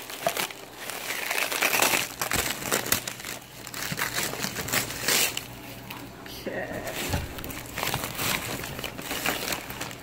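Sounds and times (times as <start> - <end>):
plastic wrap and paper crinkling: 0.0 - 10.0.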